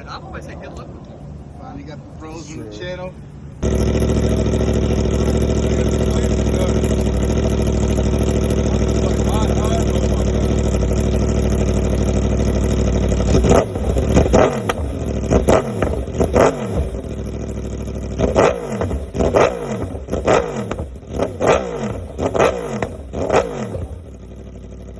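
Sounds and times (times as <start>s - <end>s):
motorcycle engine idling and revving: 3.6s - 24.9s.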